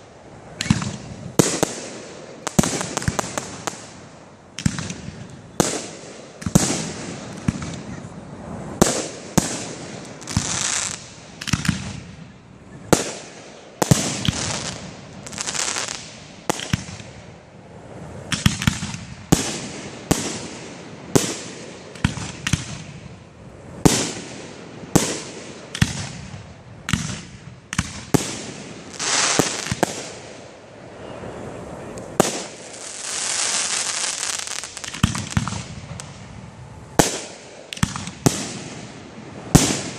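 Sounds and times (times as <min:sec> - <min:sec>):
firework crackling and hissing: 0:00.0 - 0:39.9.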